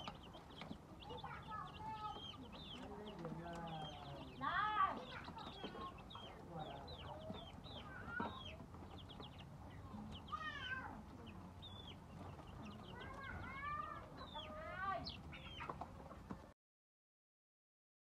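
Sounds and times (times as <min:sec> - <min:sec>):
chicks peeping: 0:00.0 - 0:16.5.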